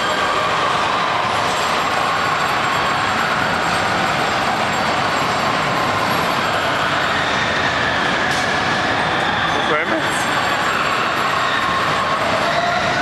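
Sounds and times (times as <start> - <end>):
roller coaster wheels roaring on rails: 0.0 - 13.0.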